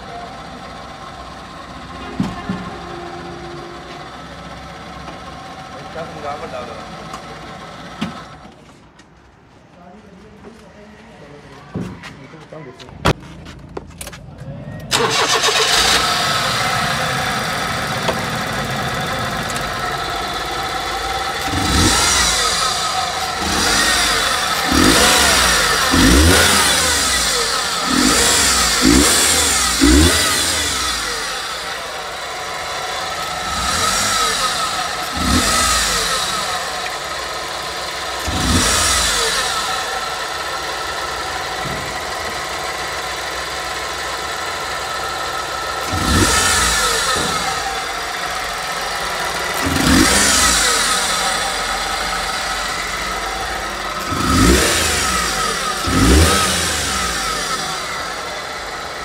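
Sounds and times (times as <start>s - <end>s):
engine idling and revving: 0.0s - 8.8s, 13.1s - 59.0s.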